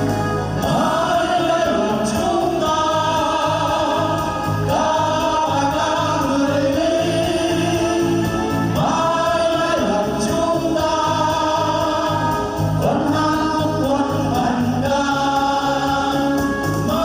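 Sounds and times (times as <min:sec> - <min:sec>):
backing music with bass beat: 0:00.0 - 0:17.0
group of voices singing: 0:00.0 - 0:17.0.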